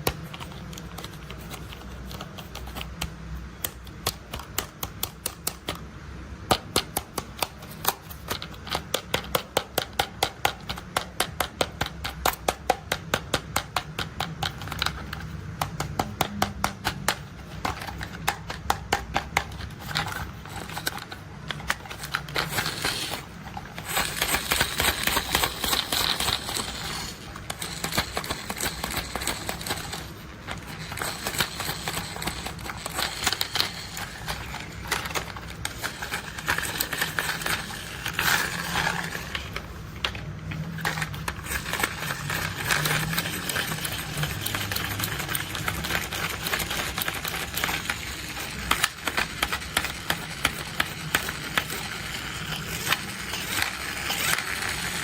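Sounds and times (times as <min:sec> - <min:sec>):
plastic toys clicking and rattling: 0:00.0 - 0:55.0.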